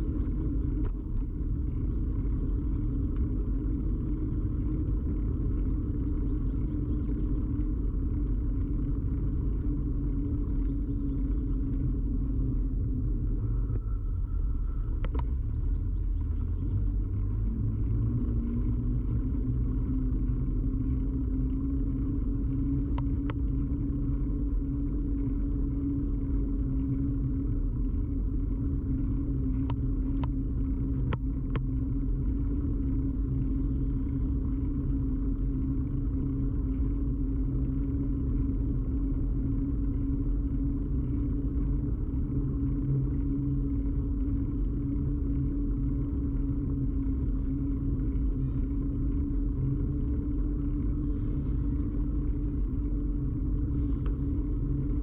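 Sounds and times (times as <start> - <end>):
bicycle wheels rolling on road: 0.0 - 55.0
humming tone: 0.0 - 55.0.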